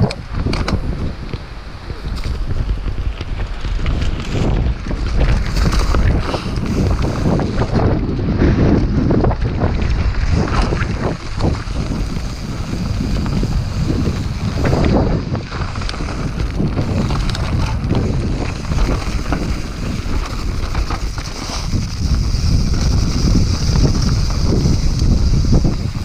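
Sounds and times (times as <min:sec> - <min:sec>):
bike knocking and rattling: 0:00.0 - 0:26.0
tyres rumbling over dirt: 0:00.0 - 0:26.0
wind rushing over microphone: 0:00.0 - 0:26.0.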